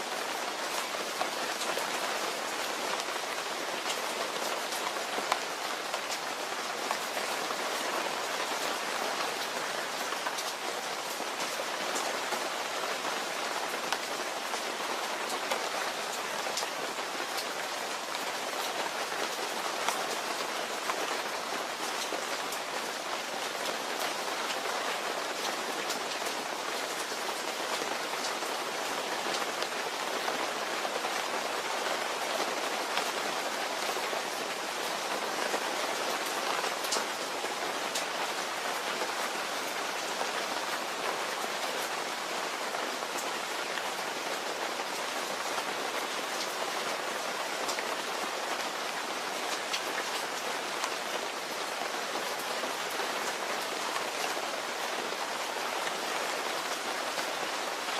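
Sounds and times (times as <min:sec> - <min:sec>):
raindrops pattering on surface: 0:00.0 - 0:57.9
steady rain hiss: 0:00.0 - 0:57.9.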